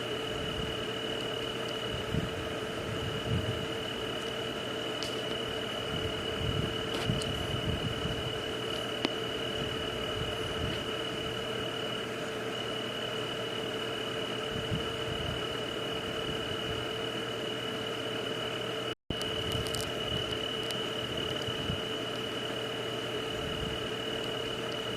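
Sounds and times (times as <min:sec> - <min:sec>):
high insect-like drone: 0:00.0 - 0:17.2, 0:18.5 - 0:24.9
low steady hum: 0:00.0 - 0:24.9.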